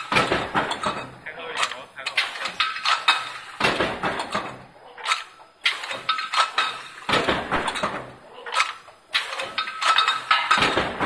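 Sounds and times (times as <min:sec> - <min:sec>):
power press metallic clanks: 0:00.0 - 0:11.0.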